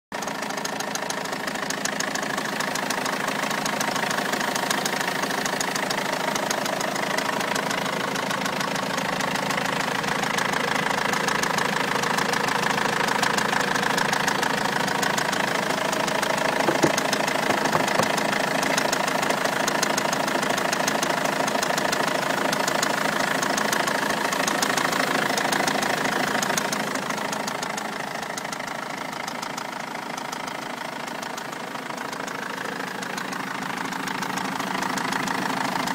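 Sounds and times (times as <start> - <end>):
car engine rattling: 0.2 - 35.9.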